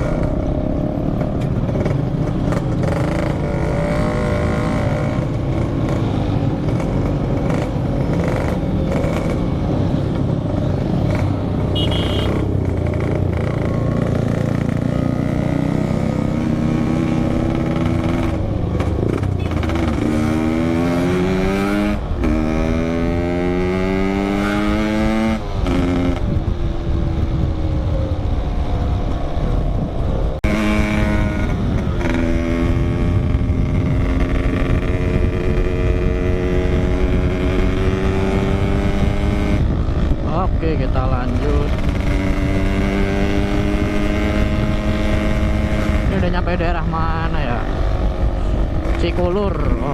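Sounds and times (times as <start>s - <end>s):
two-stroke motorcycle engine revving: 0.0s - 26.4s, 30.4s - 49.9s.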